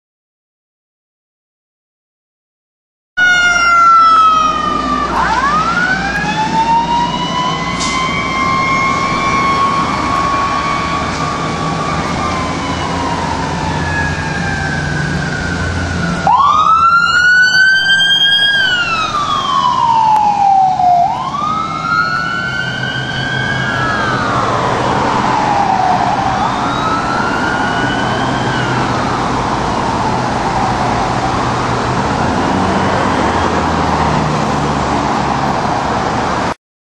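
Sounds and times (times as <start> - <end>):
sirens wailing: 3.2 - 36.6
truck engines rumbling: 3.2 - 36.6.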